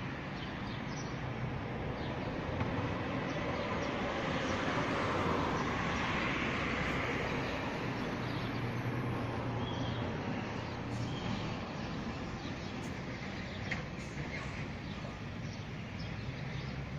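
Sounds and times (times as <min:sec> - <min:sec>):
distant traffic hum: 0:00.0 - 0:16.9.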